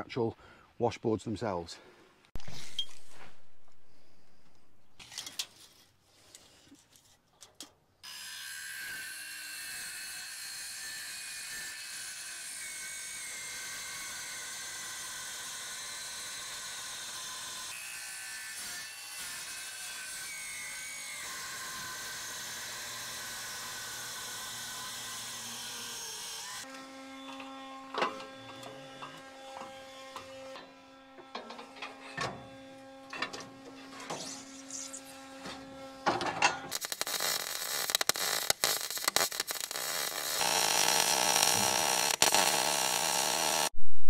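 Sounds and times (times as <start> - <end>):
circular saw cutting plywood: 8.1 - 43.8.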